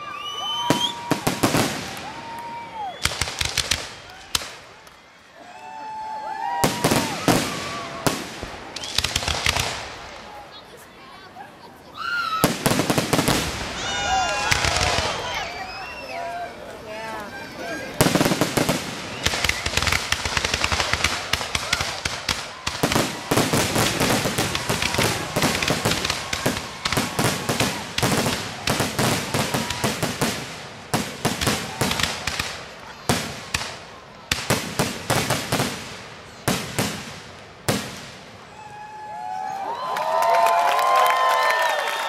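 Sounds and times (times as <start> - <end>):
fireworks bursting and crackling: 0.0 - 38.8.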